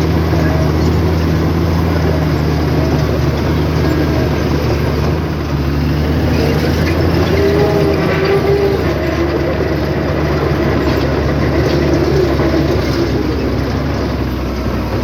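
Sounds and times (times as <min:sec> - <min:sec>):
heavy diesel engine humming: 0:00.0 - 0:15.0.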